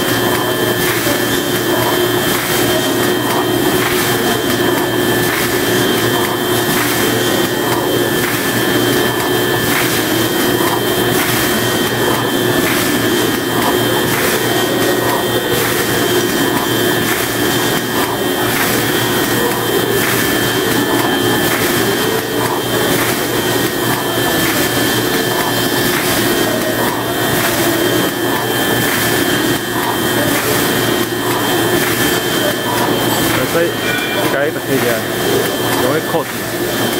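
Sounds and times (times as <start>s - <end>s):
machine hum and hiss: 0.0s - 36.9s.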